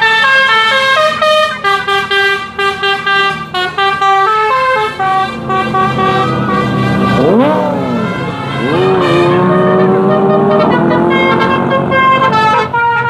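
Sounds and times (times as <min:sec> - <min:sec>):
multi-tone bus horn tune: 0:00.0 - 0:13.0.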